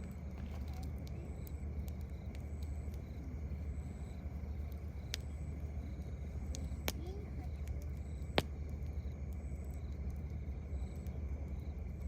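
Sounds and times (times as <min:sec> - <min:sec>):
campfire wood crackling: 0:00.0 - 0:12.0
insect chirps: 0:00.0 - 0:12.0.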